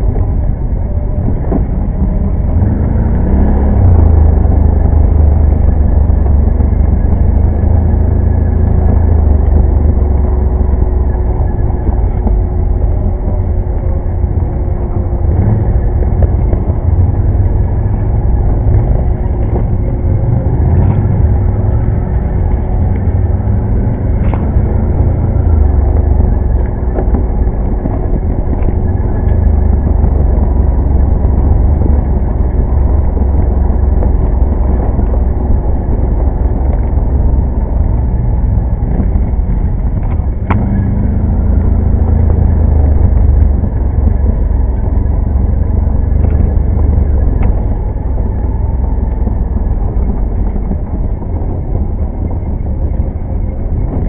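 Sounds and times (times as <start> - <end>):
atv engine rumbling: 0.0 - 54.0.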